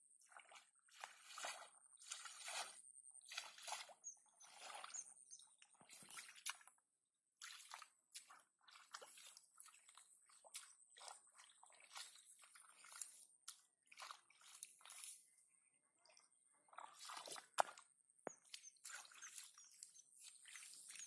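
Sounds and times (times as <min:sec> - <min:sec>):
sloshing muddy water: 0:00.0 - 0:21.0.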